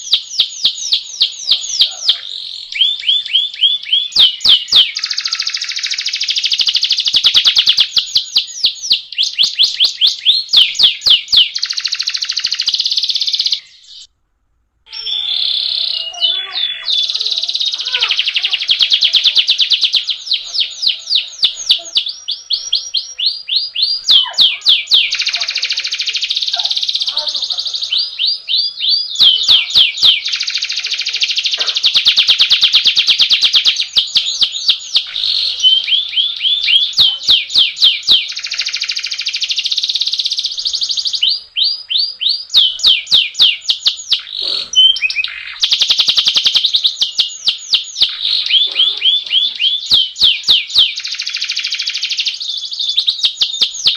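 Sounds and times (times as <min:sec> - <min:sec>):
canary singing trills: 0:00.0 - 0:14.1, 0:14.8 - 0:53.9.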